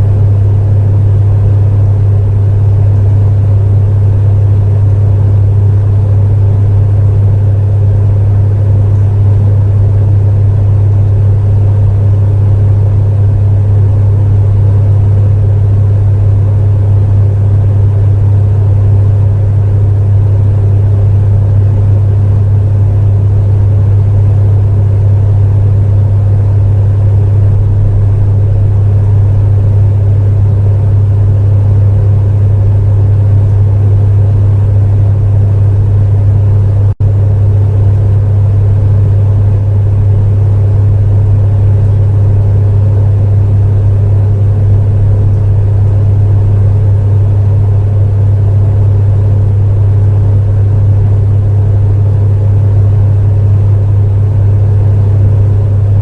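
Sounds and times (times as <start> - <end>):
electric space heater humming: 0.0 - 56.0.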